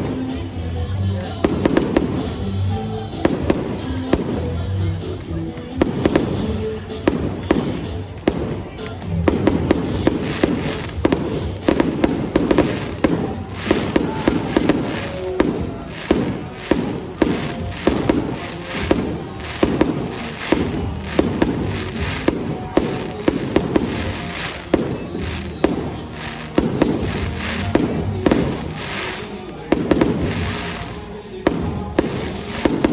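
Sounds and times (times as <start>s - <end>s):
fireworks bangs and cracks: 0.0s - 32.9s.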